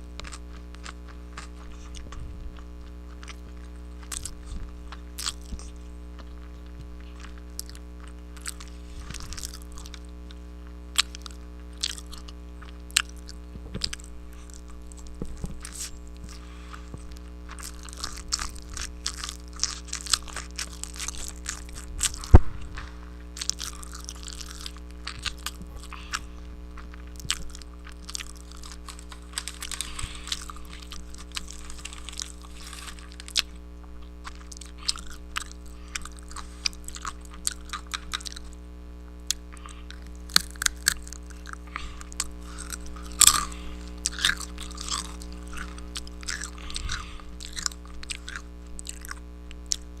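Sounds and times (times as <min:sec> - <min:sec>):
chewing crunchy chips: 0:00.0 - 0:50.0
low hum: 0:00.0 - 0:50.0.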